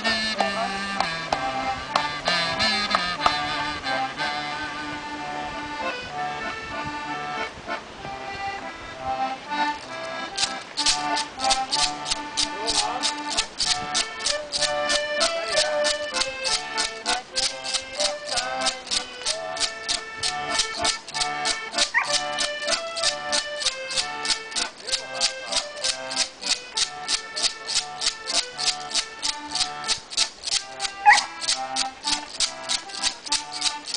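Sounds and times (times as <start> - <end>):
shaker beat: 0.0 - 4.8, 9.6 - 33.9
accordion-like melody: 0.0 - 33.9.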